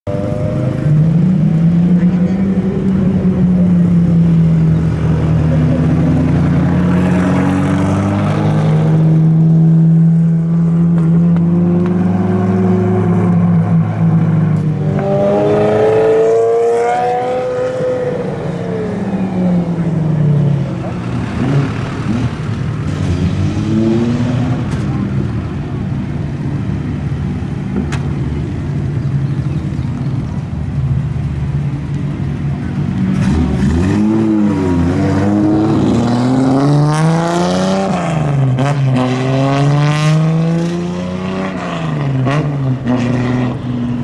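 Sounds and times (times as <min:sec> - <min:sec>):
car engines at low revs: 0:00.1 - 0:44.0
engine revving up: 0:00.2 - 0:24.9, 0:33.0 - 0:43.6.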